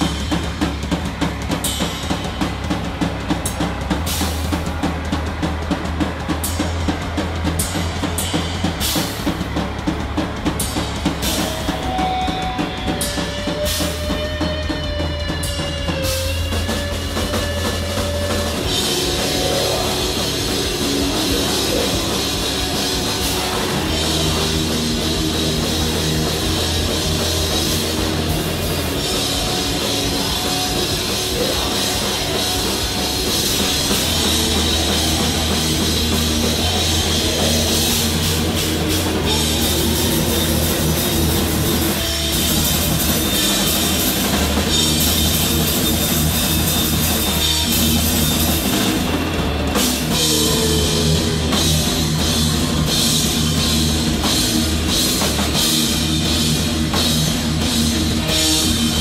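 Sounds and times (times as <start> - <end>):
punk band playing live: 0.0 - 59.0.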